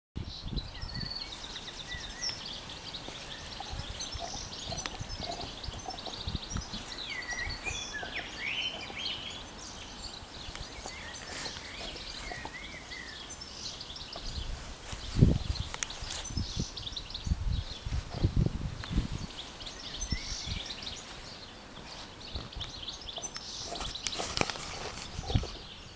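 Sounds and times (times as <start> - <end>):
birds singing and calling: 0.2 - 25.9.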